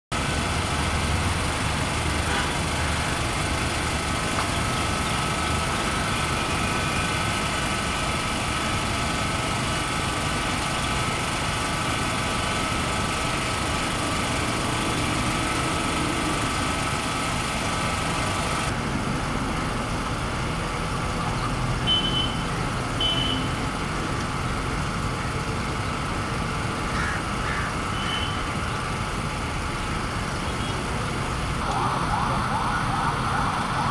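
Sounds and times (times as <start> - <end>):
road traffic hum: 0.1 - 33.9.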